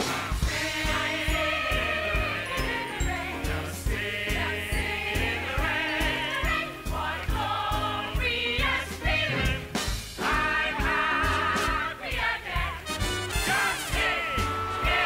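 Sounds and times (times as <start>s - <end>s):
show tune voices singing together: 0.0s - 15.0s.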